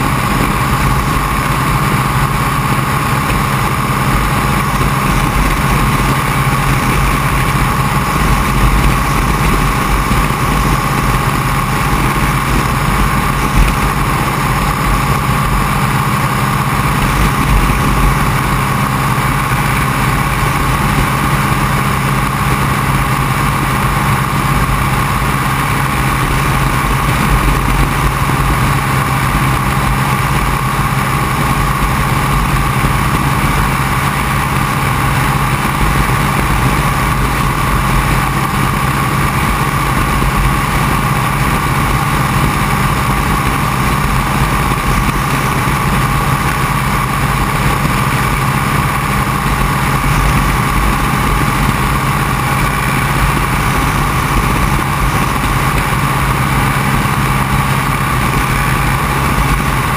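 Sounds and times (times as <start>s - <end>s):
biplane piston engine running: 0.0s - 59.9s
wind rushing: 0.0s - 59.9s.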